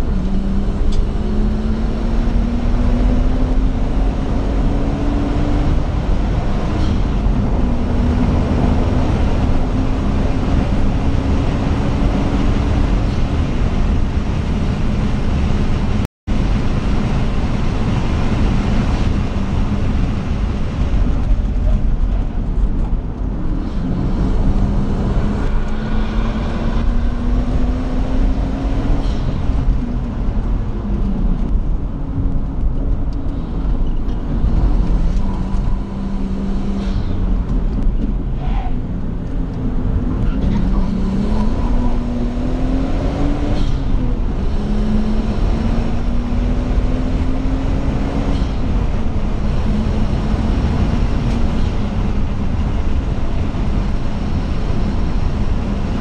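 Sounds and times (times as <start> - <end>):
car engine revving with gear changes: 0.0 - 56.0
road and wind rumble: 0.0 - 56.0.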